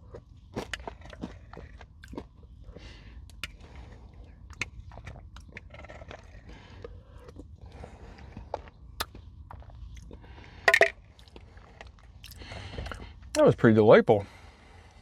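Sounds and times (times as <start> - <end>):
chewing crunchy granola bar: 0.0 - 13.5.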